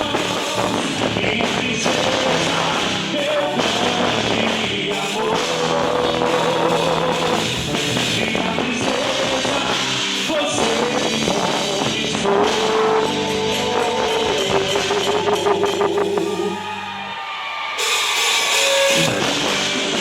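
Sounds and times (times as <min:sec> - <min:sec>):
folk dance music with singing: 0:00.0 - 0:16.8.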